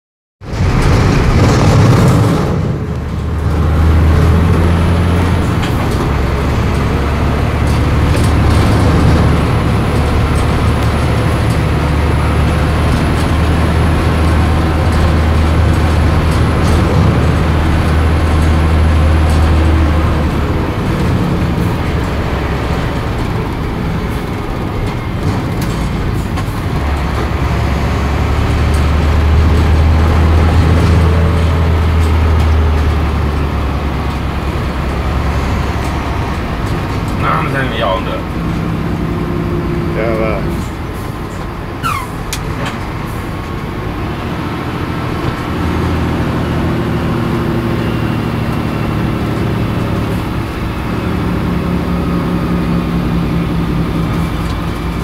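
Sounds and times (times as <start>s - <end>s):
low engine drone: 0.4s - 55.0s
tyres on dirt road: 0.4s - 55.0s.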